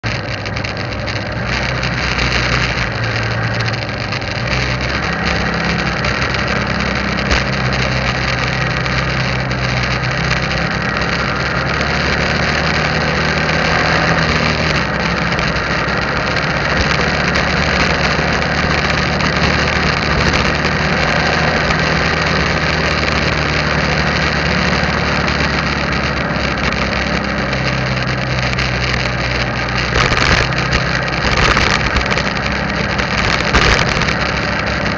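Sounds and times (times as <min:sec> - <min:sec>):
motorbike engine running: 0:00.0 - 0:34.9
road noise: 0:00.0 - 0:34.9
wind noise: 0:00.0 - 0:34.9.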